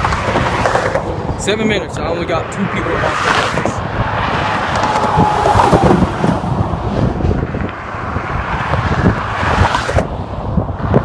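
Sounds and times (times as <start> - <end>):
highway traffic: 0.0 - 11.0
wind rumbling on microphone: 0.0 - 11.0.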